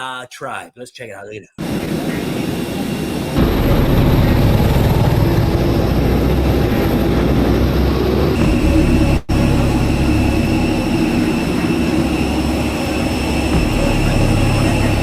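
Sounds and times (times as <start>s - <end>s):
aircraft engine noise: 1.6s - 15.0s.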